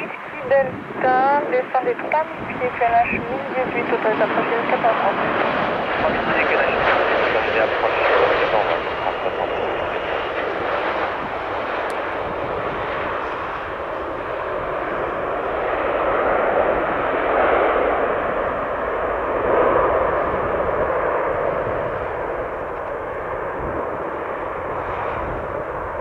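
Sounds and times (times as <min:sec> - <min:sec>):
jet engines rushing: 0:00.0 - 0:26.0.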